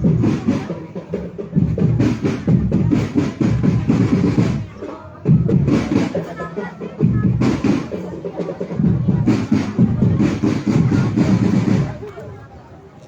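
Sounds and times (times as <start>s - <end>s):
bass drum beat: 0.0s - 12.1s
snare drum beat: 0.0s - 12.1s.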